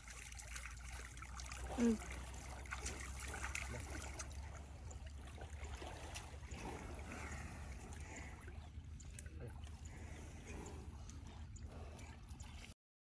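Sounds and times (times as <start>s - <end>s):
water sloshing and trickling: 0.0s - 12.8s
steady low rumble: 1.1s - 12.7s.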